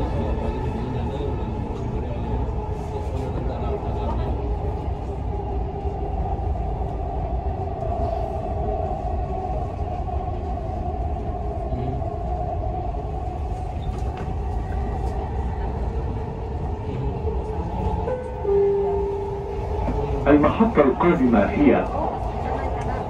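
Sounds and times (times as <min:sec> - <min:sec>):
constant hum: 0:00.0 - 0:23.0
train wheels rumbling: 0:00.0 - 0:23.0.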